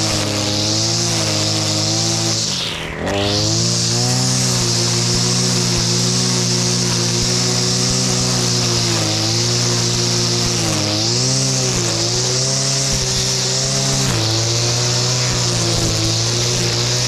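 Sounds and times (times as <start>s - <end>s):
brushcutter engine running: 0.0s - 17.0s
line head whirring through grass: 0.0s - 17.0s.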